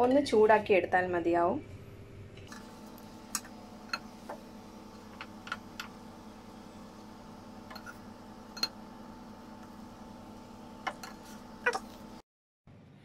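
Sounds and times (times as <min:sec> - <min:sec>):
faint steady hum: 0:00.3 - 0:13.0.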